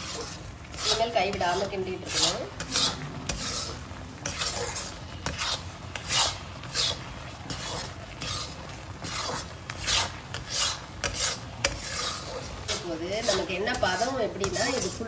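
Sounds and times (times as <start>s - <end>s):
spatula scraping paste in wok: 0.0s - 15.0s.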